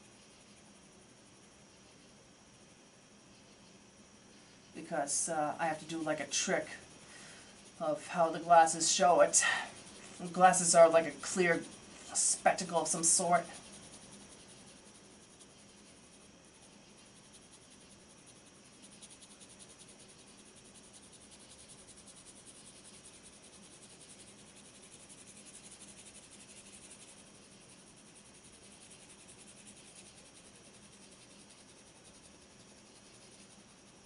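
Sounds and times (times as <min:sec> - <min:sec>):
pencil scratching on paper: 0:05.7 - 0:34.0.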